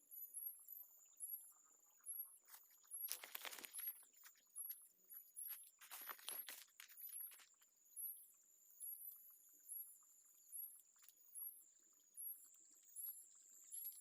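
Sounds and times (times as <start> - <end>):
insect trill: 0.0 - 14.0.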